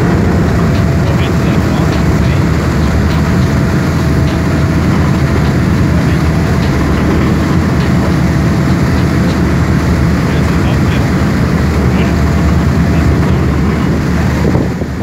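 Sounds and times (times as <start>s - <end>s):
boat engine low rumble: 0.0s - 15.0s
water rushing from wake: 0.0s - 15.0s.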